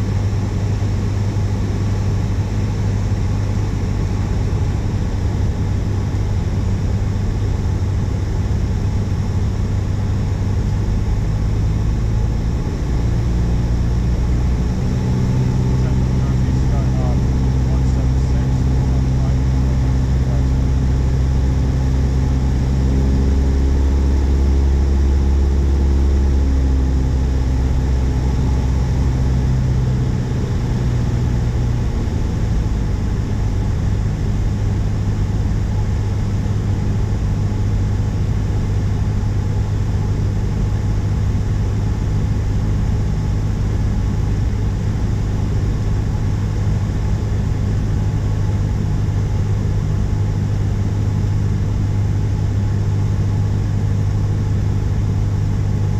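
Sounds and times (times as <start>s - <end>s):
light plane engine droning: 0.0s - 55.9s.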